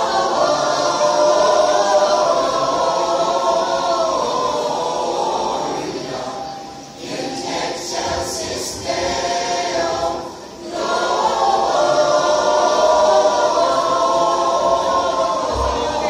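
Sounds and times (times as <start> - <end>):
mixed choir singing a cappella: 0.0 - 16.0.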